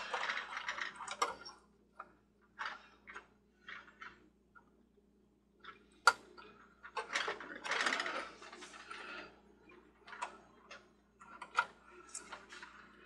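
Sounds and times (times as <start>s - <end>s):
parts rattling and scraping: 0.0s - 4.8s, 5.6s - 13.0s.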